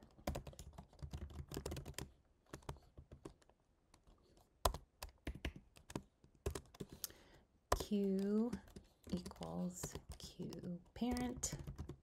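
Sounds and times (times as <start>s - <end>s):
keyboard typing: 0.0s - 12.0s.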